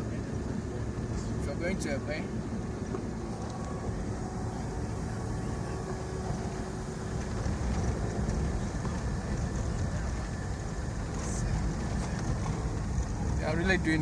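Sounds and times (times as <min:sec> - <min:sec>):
car driving on a road: 0:00.0 - 0:14.0.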